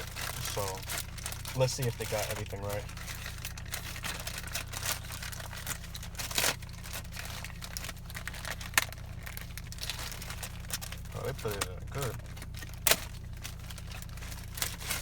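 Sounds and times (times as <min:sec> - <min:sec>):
package wrapping crinkling and tearing: 0:00.0 - 0:15.0.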